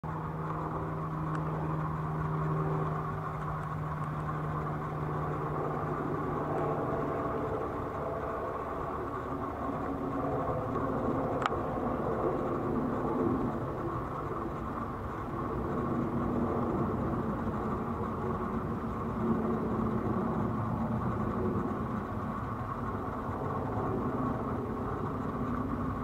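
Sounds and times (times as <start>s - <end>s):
distant jet engine rumble: 0.0s - 26.0s
low hum: 0.0s - 26.0s.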